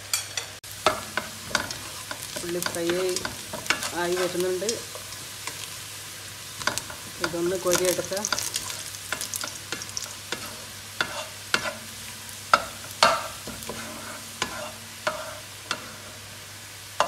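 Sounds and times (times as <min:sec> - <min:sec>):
onions frying in oil: 0:00.0 - 0:17.0
spatula scraping and tapping pot: 0:00.2 - 0:05.7, 0:06.6 - 0:11.9, 0:12.5 - 0:16.1.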